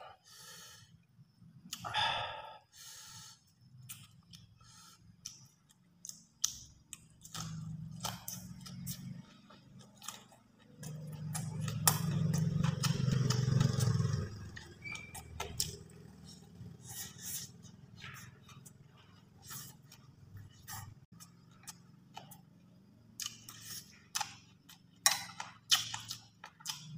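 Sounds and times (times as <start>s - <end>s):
chewing and mouth clicks: 3.7s - 26.9s.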